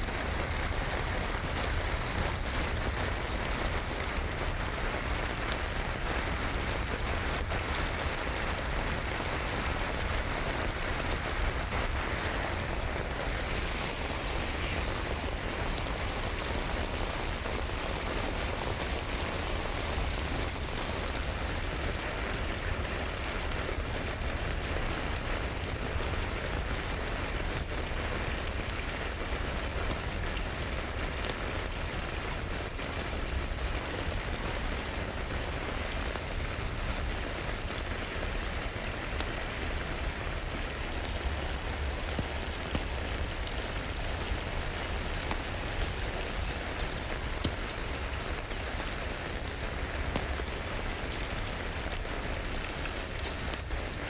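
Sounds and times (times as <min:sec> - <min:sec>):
rain falling: 0:00.0 - 0:54.0
wood fire crackling: 0:00.0 - 0:54.0.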